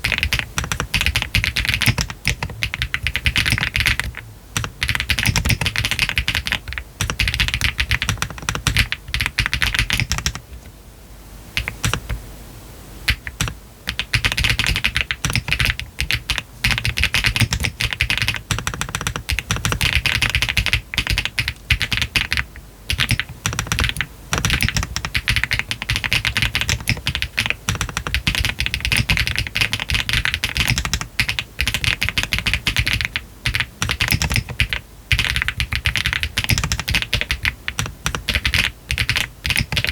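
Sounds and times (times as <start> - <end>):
mechanical keyboard typing: 0.0 - 10.4, 11.6 - 12.2, 13.1 - 39.9.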